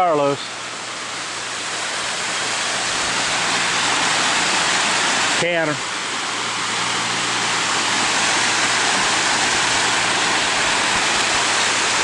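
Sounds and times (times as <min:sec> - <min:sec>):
waterfall roaring onto rocks: 0:00.0 - 0:12.0.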